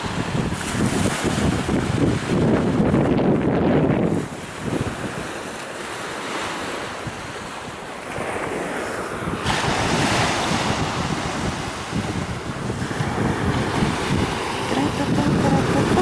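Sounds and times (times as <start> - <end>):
surf washing onto beach: 0.0 - 16.0
wind rumbling on microphone: 0.0 - 16.0.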